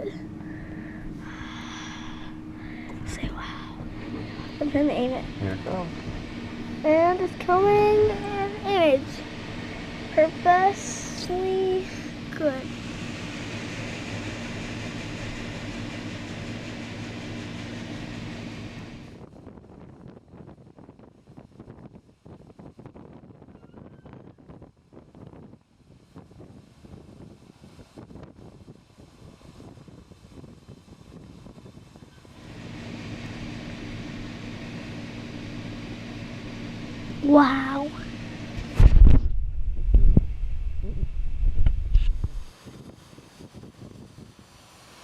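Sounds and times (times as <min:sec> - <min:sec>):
diesel farm machine engine drone: 0:00.0 - 0:19.5, 0:25.6 - 0:45.0.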